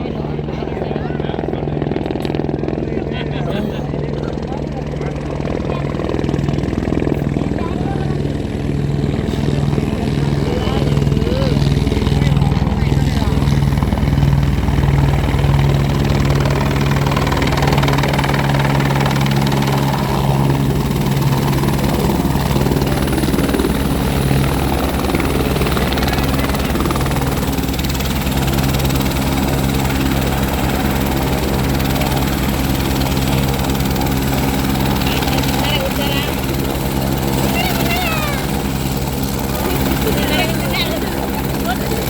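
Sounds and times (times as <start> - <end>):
helicopter rotor beat: 0.0 - 42.0.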